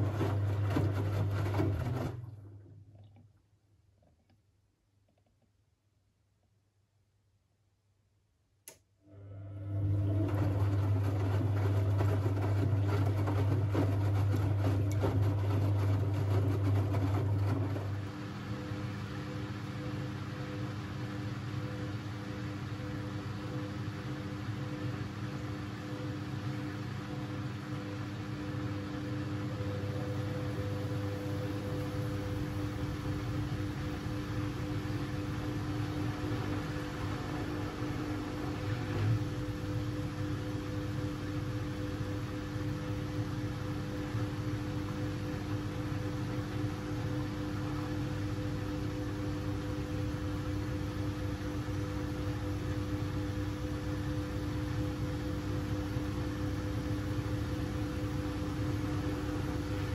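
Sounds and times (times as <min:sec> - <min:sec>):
washing machine rushing hum: 0:00.0 - 0:03.0, 0:09.1 - 0:59.9
washing machine motor tone: 0:00.0 - 0:03.2, 0:09.0 - 0:59.9.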